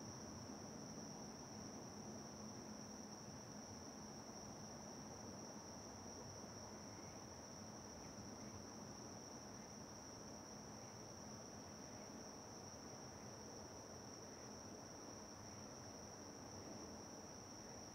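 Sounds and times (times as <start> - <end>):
crickets chirring: 0.0 - 17.9.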